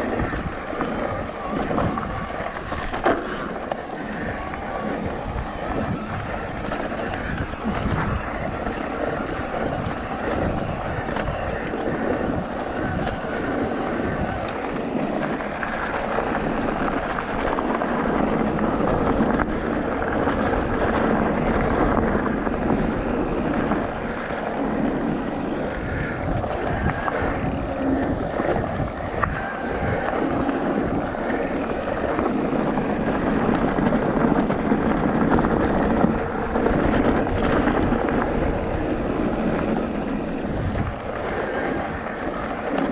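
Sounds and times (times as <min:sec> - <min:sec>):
off-road motorcycle engine: 0:00.0 - 0:42.9.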